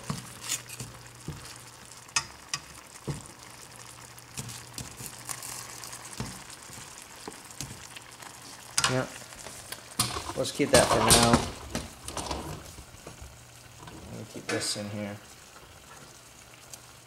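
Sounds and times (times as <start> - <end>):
pasta sizzling in a pan: 0.0 - 17.0.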